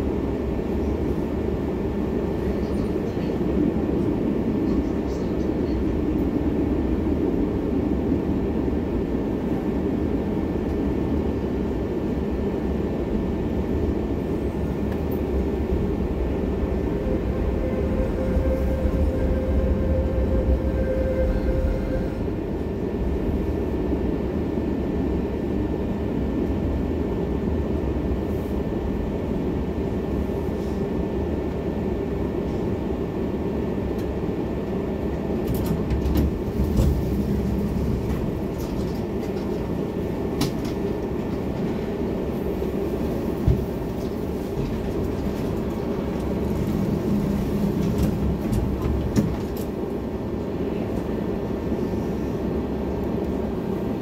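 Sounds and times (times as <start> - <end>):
tram wheels rumbling on rail: 0.0 - 54.0.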